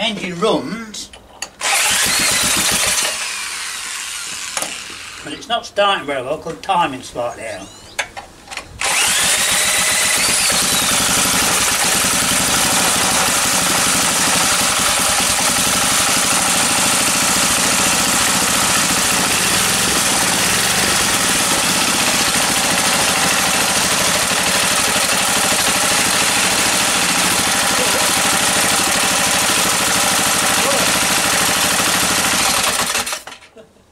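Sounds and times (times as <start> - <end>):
small engine running steadily: 1.6 - 5.2, 8.8 - 33.3
electric drill whine: 1.6 - 5.3, 8.8 - 33.4.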